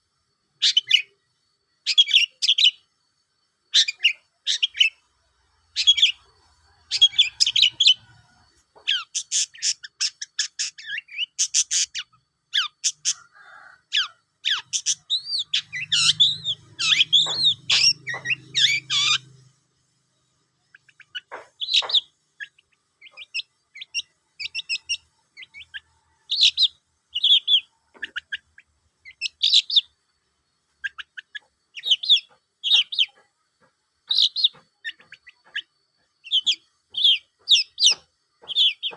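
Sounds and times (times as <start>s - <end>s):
bird singing chirps and trills: 0.6s - 1.2s, 1.8s - 2.9s, 3.7s - 13.3s, 13.9s - 30.0s, 30.8s - 38.9s.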